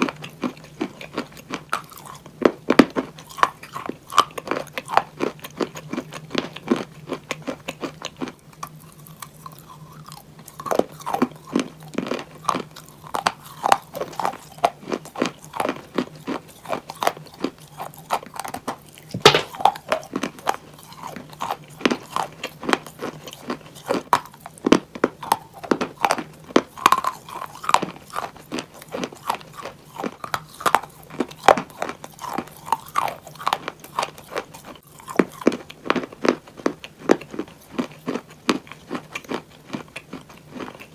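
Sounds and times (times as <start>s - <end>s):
chalk being chewed: 0.0s - 40.9s
faint low hum: 0.0s - 40.9s.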